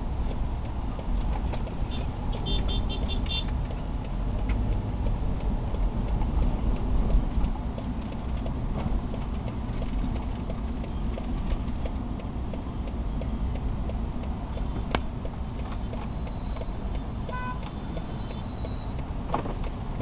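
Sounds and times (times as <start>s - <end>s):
road and engine rumble: 0.0s - 20.0s.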